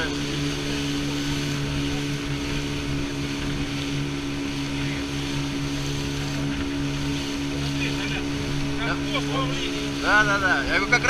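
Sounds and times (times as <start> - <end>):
outboard motor running: 0.0 - 11.0
water rushing past: 0.0 - 11.0.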